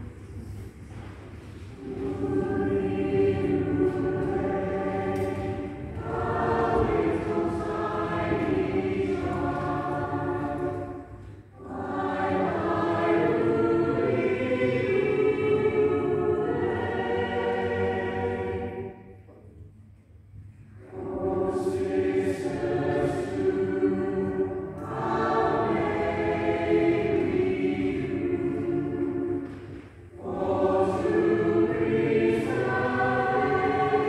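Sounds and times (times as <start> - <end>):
choir singing long chords: 1.6 - 19.4, 20.7 - 34.0.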